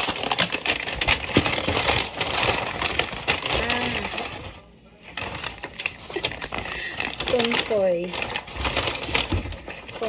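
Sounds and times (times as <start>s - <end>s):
paper bag rustling and crinkling: 0.0s - 10.0s.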